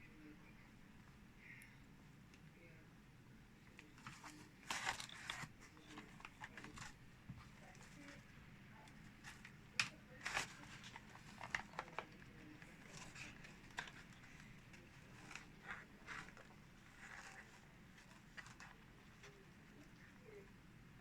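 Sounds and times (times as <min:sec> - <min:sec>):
handling clicks and rustles: 0:03.7 - 0:20.6.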